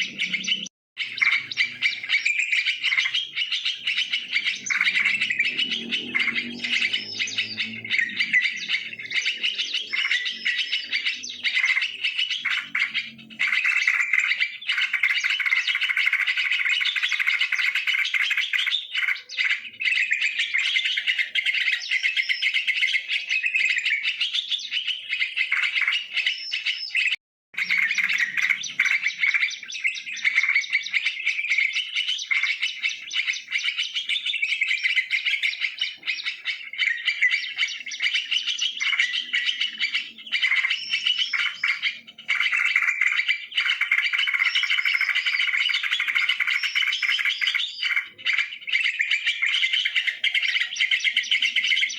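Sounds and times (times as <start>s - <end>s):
bulbuls chattering and chirping: 0.0s - 51.9s.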